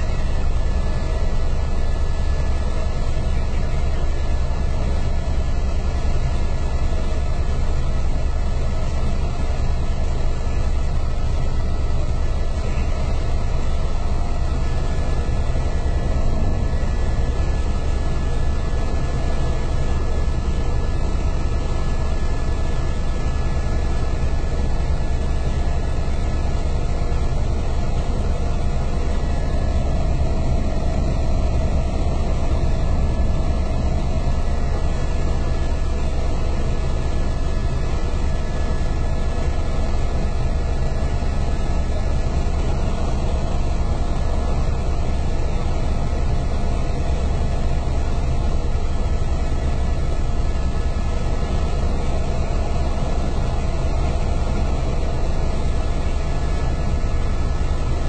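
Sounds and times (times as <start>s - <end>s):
faint steady hum: 0.0s - 58.0s
helicopter engine and rotor drone: 0.0s - 58.0s.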